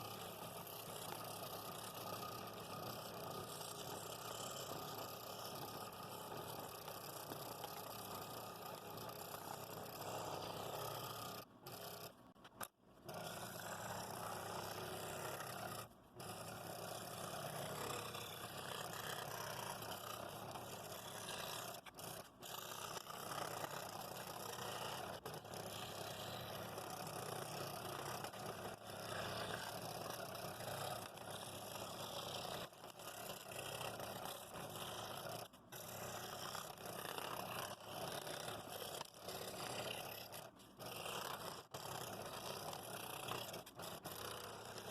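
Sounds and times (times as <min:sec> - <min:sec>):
scroll saw cutting wood: 0:00.0 - 0:44.9.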